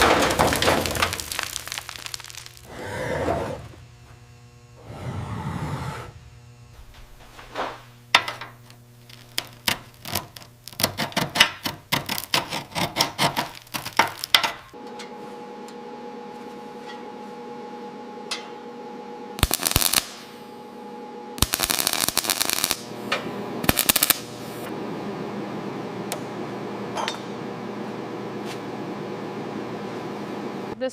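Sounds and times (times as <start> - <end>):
machine hum: 0.0 - 30.8.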